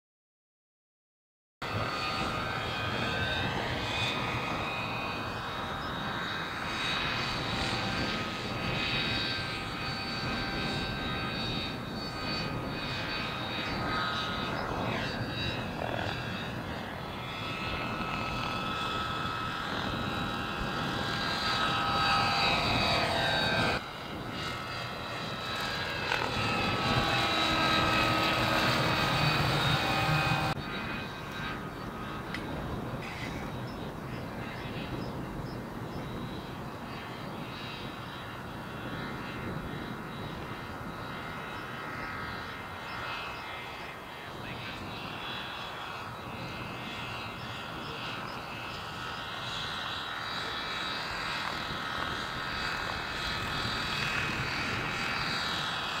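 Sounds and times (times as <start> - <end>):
model helicopter motor whine: 1.6 - 56.0.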